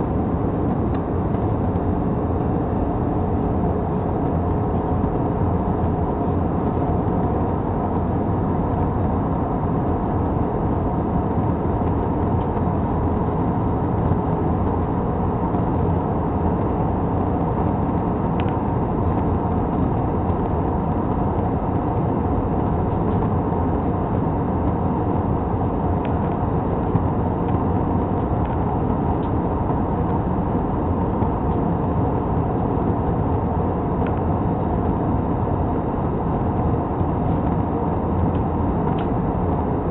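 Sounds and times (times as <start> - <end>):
airliner cabin engine hum: 0.0 - 39.9.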